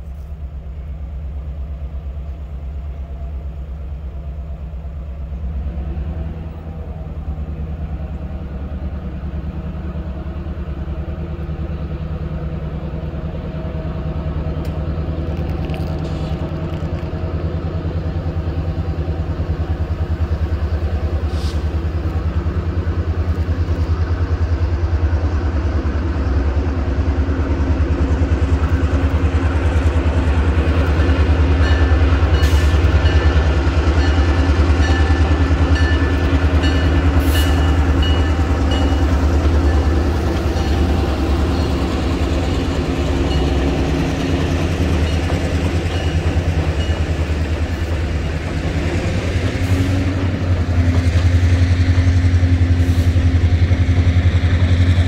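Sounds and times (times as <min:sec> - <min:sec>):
train engine rumbling: 0:00.0 - 0:55.0.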